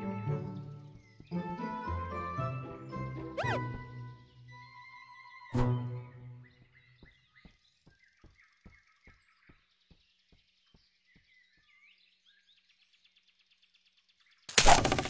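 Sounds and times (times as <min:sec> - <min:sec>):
faint forest birdsong: 0:00.0 - 0:15.0.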